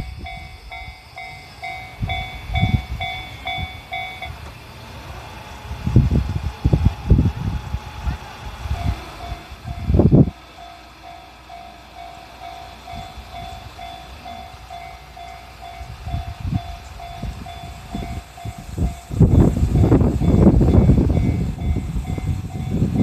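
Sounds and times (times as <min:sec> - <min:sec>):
level crossing warning bell ringing: 0:00.0 - 0:04.5, 0:08.7 - 0:23.0
train rumbling: 0:00.0 - 0:23.0.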